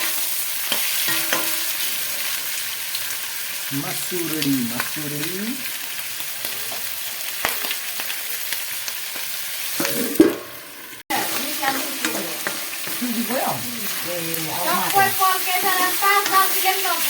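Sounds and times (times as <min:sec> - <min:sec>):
meat sizzling in a pan: 0:00.0 - 0:17.0
stirring in a pan: 0:00.0 - 0:17.0.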